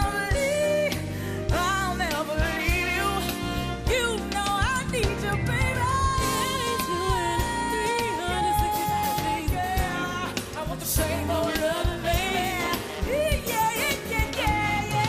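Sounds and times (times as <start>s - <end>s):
band accompaniment: 0.0s - 15.0s
woman singing soul: 0.0s - 15.0s.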